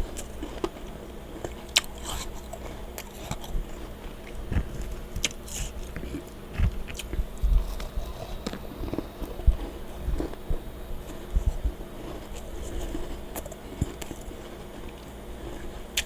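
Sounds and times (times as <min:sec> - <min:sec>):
chewing crunchy frost: 0:00.0 - 0:16.0
faint hum: 0:00.0 - 0:16.0.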